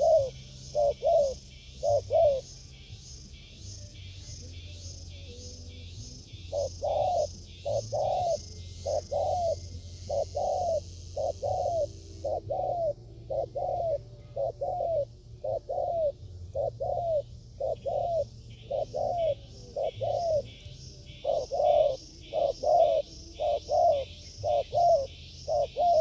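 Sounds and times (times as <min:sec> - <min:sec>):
dove cooing: 0:00.0 - 0:26.0
high pulsing buzz: 0:00.0 - 0:26.0.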